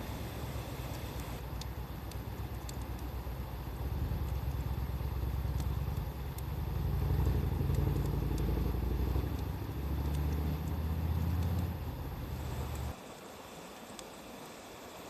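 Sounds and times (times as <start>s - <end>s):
bonfire crackling: 0.0s - 13.0s
motor vehicle engine rumbling: 0.0s - 13.0s.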